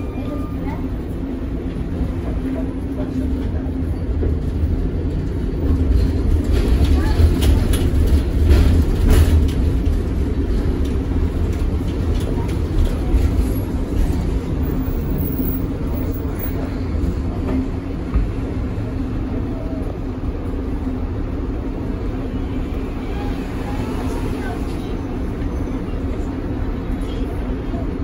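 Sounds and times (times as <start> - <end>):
tram rumbling along track: 0.0 - 28.0.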